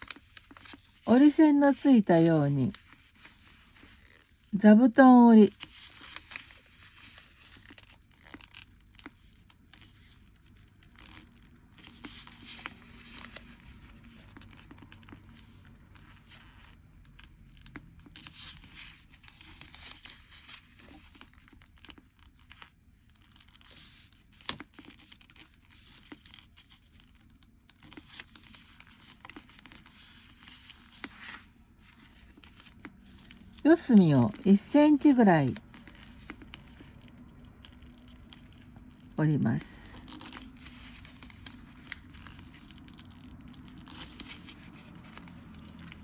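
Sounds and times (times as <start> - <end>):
paper rustling and crinkling: 0.0 - 4.5, 5.1 - 39.2, 39.8 - 46.0
paper creases crackling: 0.0 - 46.0.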